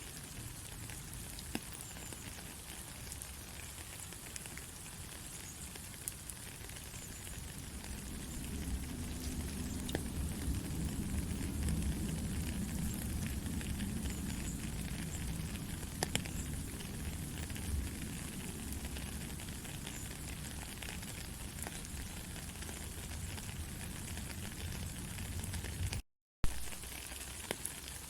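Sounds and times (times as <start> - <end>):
steady rain hiss: 0.0 - 28.0
sharp water drips: 0.1 - 28.0.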